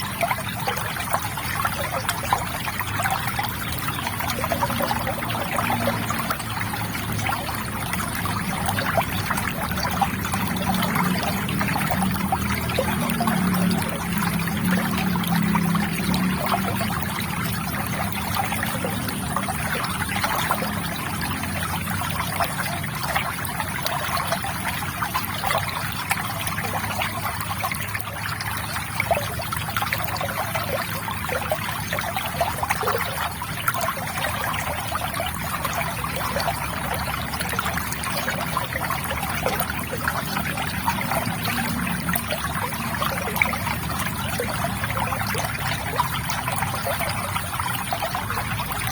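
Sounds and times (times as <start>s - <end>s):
river water trickling: 0.0s - 48.9s
small water splashes: 0.0s - 48.9s.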